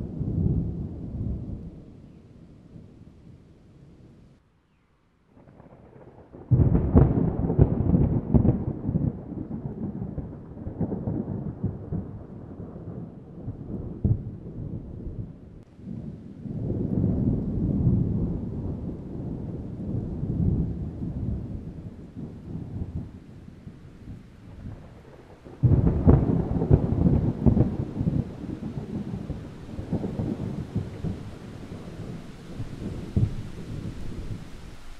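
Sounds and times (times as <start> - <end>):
low thunder rumble: 0.0 - 4.4, 5.4 - 34.9
thunder clap: 5.4 - 23.2, 24.5 - 34.9.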